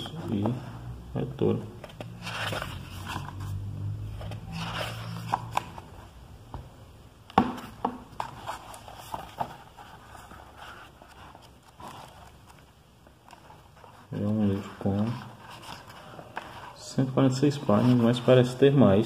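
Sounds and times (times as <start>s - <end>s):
book pages rustling: 1.4s - 6.2s, 7.3s - 19.0s.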